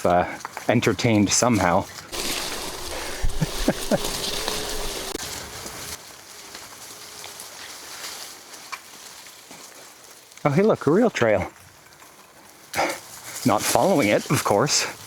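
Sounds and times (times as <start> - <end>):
bicycle tyres crackling on forest floor: 0.0 - 15.0.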